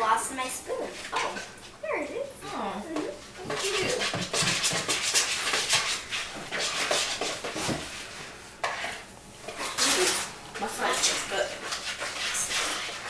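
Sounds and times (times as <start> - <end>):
spoon scraping a mixing bowl: 0.7 - 1.6, 2.8 - 13.0.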